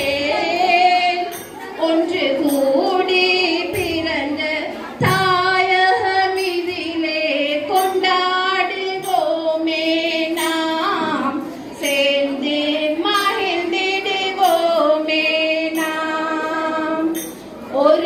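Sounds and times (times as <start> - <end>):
high voices singing: 0.0 - 18.0.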